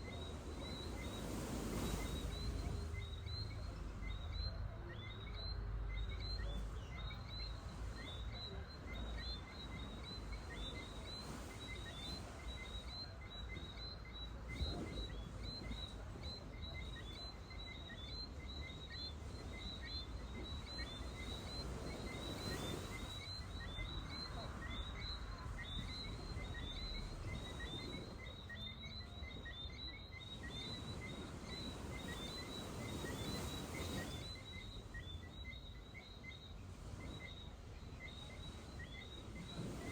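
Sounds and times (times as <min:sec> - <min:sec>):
surf washing on shore: 0:00.0 - 0:39.9
whistling frogs chirping: 0:00.0 - 0:39.9.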